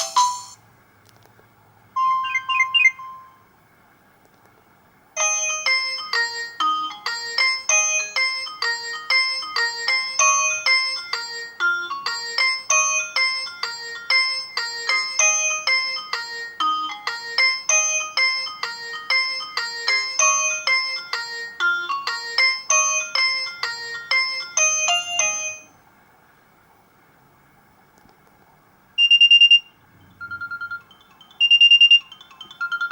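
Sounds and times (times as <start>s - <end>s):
phone ringtone melody: 0.0s - 0.6s, 2.0s - 3.5s, 5.2s - 25.8s, 29.0s - 32.9s.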